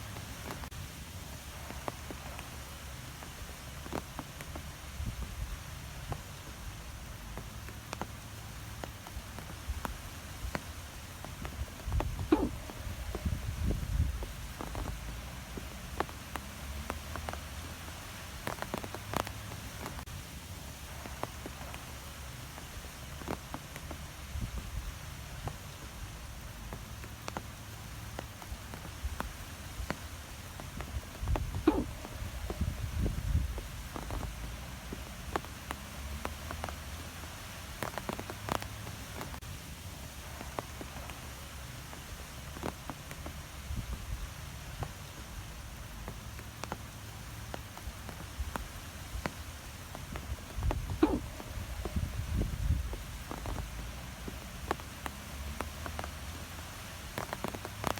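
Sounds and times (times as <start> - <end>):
light ticks: 0.0 - 57.9
wind blowing through trees: 0.0 - 57.9.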